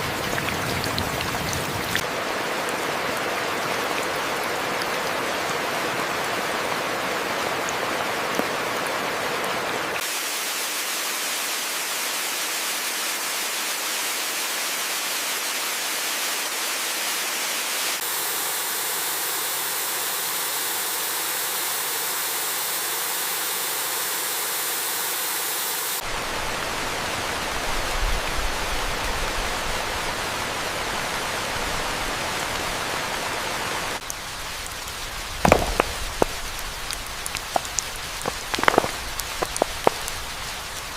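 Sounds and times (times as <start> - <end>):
heavy rain: 0.0 - 19.0, 26.0 - 40.9.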